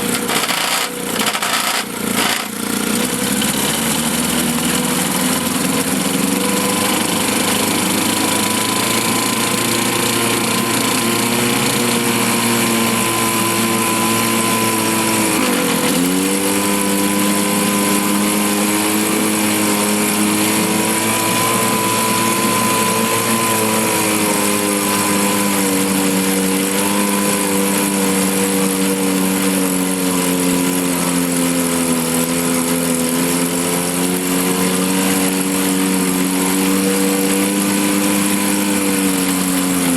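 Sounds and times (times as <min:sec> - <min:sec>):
outboard motor droning: 0:00.0 - 0:39.9.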